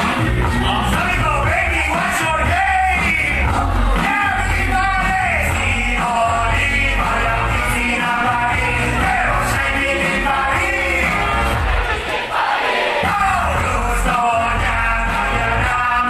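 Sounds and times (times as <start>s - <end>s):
heavy bass line: 0.0s - 12.0s, 13.0s - 16.0s
loud music with singing: 0.0s - 16.0s.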